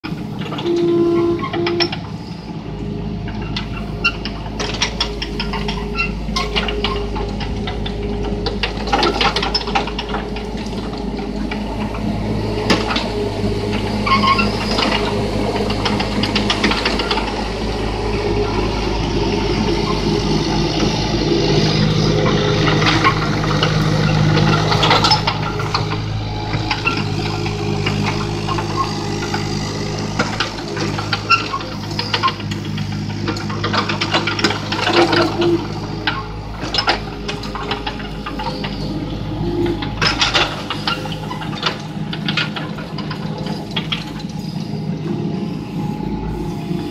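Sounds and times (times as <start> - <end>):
excavator diesel engine running: 0.0 - 46.9
machine knocks and clanks: 3.3 - 17.5, 21.8 - 45.2.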